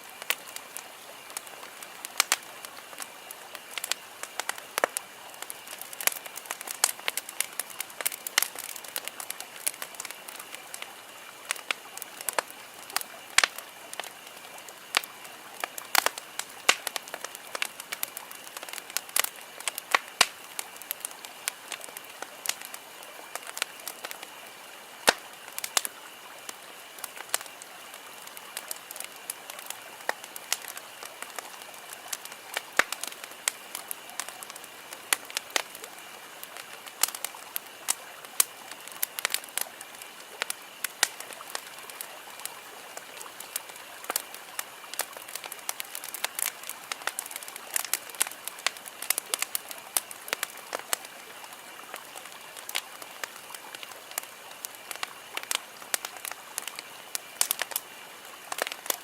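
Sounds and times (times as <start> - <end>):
campfire crackling and popping: 0.0 - 59.0
hiss of burning: 0.0 - 59.0.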